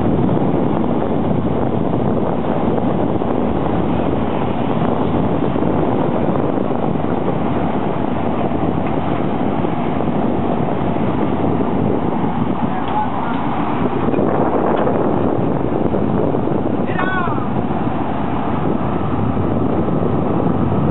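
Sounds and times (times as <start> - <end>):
boat engine: 0.0 - 20.9
wind buffeting microphone: 0.0 - 20.9.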